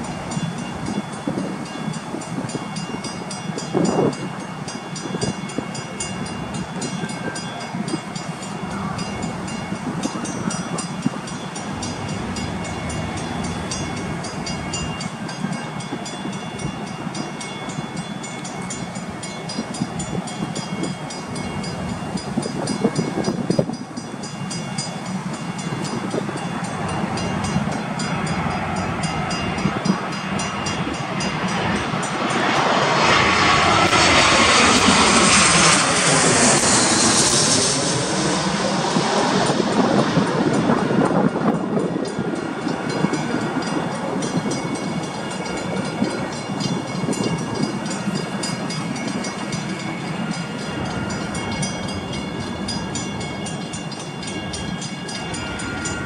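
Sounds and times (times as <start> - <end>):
jet aircraft passing overhead: 0.0 - 56.0
train humming: 0.0 - 56.0.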